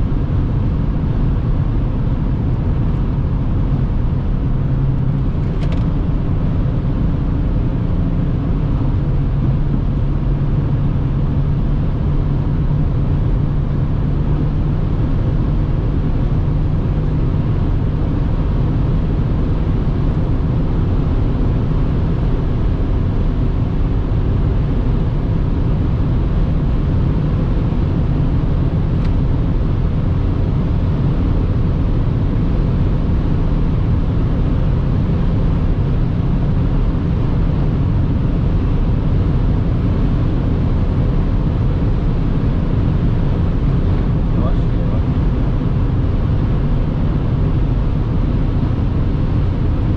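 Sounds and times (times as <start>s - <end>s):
low engine drone: 0.0s - 49.9s.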